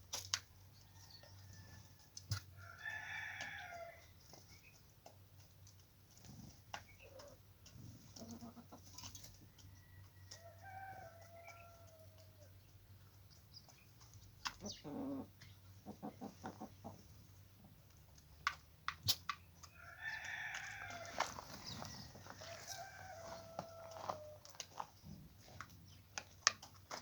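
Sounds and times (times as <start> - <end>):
chickens clucking: 0.7 - 27.0.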